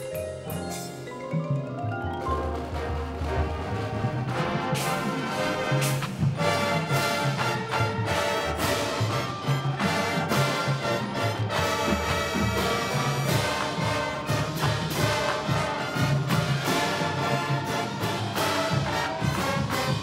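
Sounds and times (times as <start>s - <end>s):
brass chords with accented hits: 2.5s - 20.0s.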